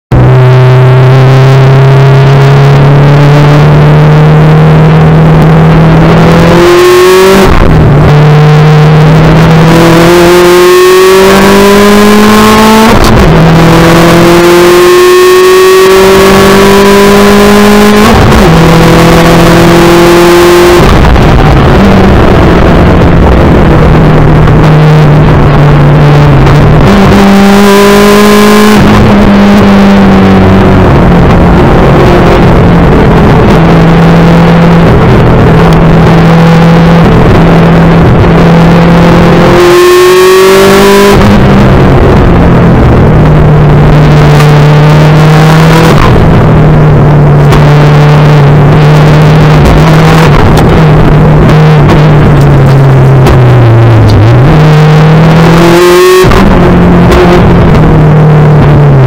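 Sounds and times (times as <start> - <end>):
car engine revving: 0.1 - 59.0.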